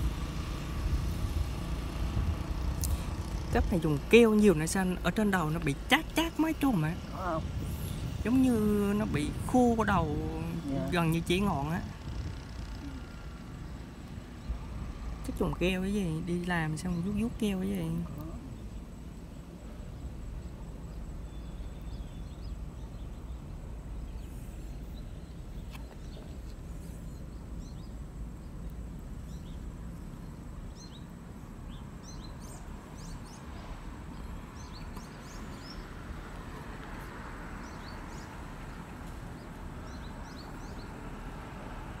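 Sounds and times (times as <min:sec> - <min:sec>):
steady low rumble: 0:00.0 - 0:36.6
small birds chirping: 0:00.0 - 0:41.8.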